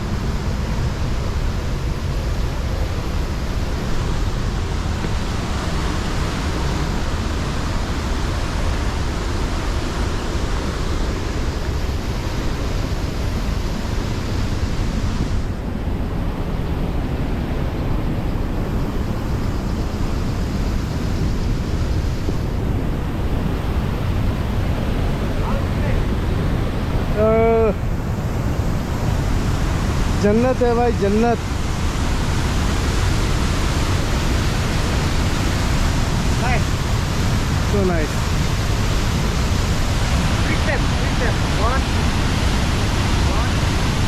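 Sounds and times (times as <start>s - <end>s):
waterfall rushing: 0.0s - 15.6s, 19.9s - 44.0s.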